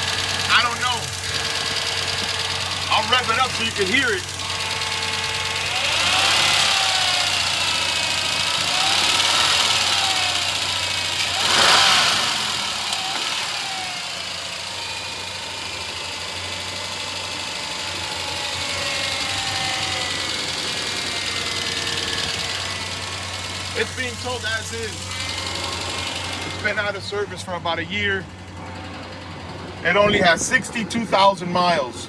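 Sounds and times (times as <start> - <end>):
engine ticking knock: 0.0 - 26.9
engine revving: 0.0 - 27.7.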